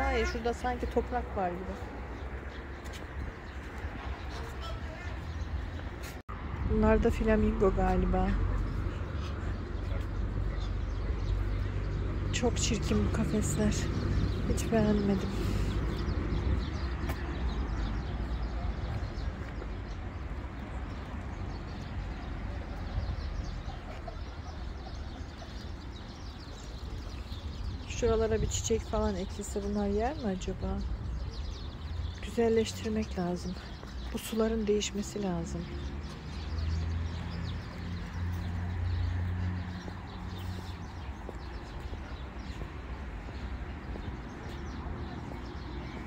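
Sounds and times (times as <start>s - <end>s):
small birds chirping: 7.0s - 46.0s.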